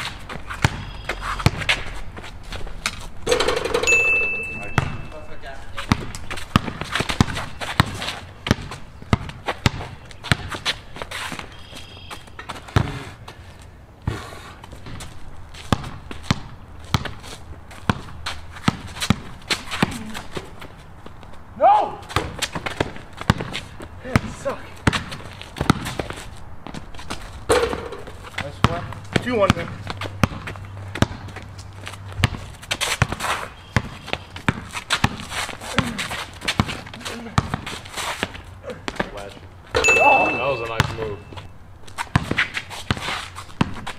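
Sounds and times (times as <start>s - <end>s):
sneakers scuffing on concrete: 0.0s - 3.2s, 4.6s - 21.4s, 22.0s - 43.9s
basketball bouncing on concrete: 0.1s - 13.1s, 14.0s - 21.2s, 22.0s - 43.9s.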